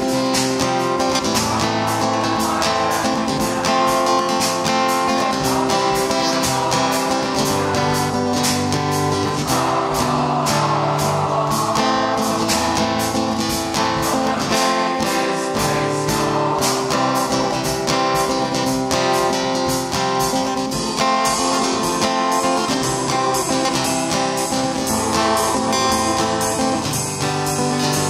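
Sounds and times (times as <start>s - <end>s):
piano playing repeated chords: 0.0s - 28.0s.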